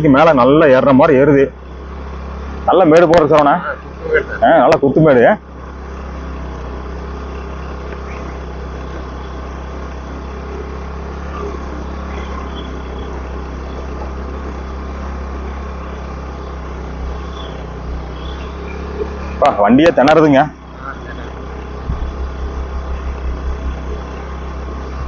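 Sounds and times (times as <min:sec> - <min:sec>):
motorcycle engine labouring: 0:00.0 - 0:25.0.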